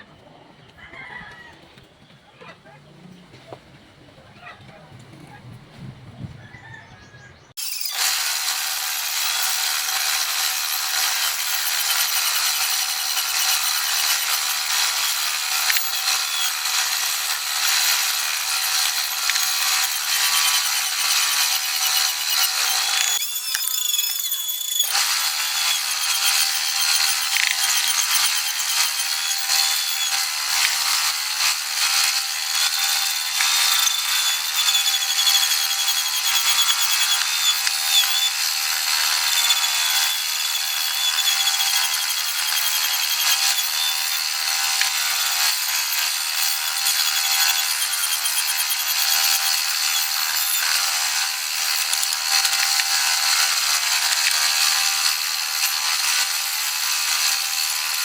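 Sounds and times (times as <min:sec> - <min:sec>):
power tool cutting wood: 0:07.6 - 0:58.0.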